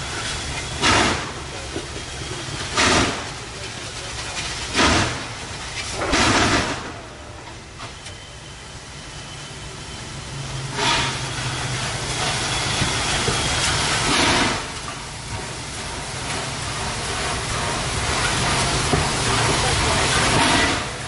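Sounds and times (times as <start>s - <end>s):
locomotive steam puffs: 0.0s - 21.0s
steam locomotive hissing: 0.0s - 21.0s
train rumble: 0.0s - 21.0s.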